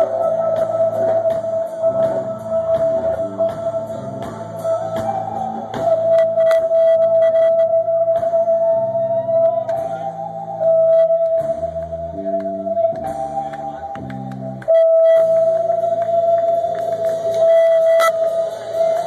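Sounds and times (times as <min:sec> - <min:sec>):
bass guitar playing: 0:00.0 - 0:19.0.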